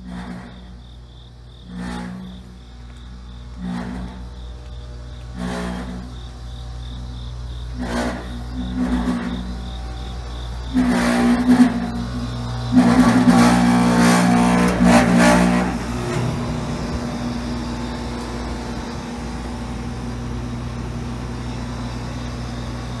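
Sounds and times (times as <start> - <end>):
tonal mechanical surge: 0.0 - 21.8
refrigeration units droning: 0.0 - 23.0.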